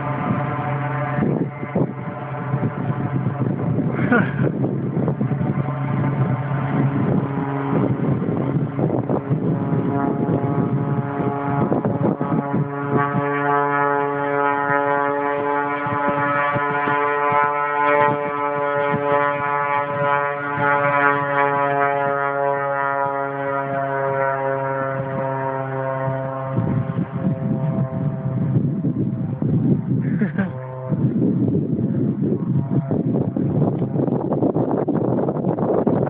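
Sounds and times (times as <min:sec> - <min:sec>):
propeller plane droning overhead: 0:00.0 - 0:36.0
wind buffeting microphone: 0:00.0 - 0:36.0.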